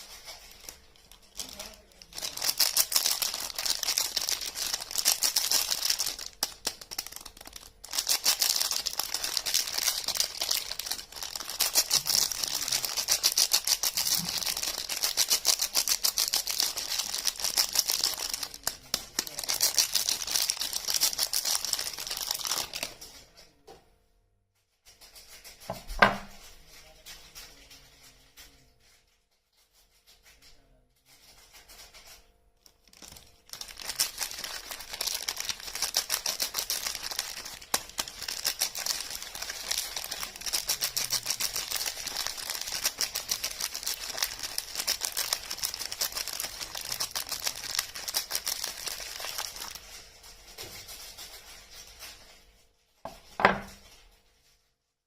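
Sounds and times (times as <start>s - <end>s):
packaging crinkling and tearing: 0.0s - 23.2s, 31.1s - 52.4s.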